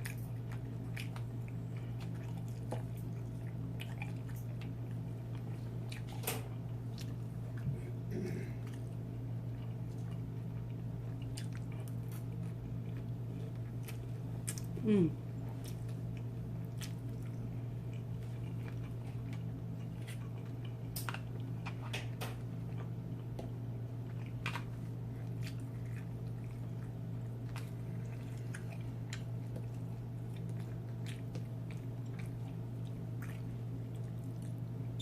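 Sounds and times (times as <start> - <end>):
person chewing food: 0.0 - 34.9
steady low hum: 0.0 - 35.0.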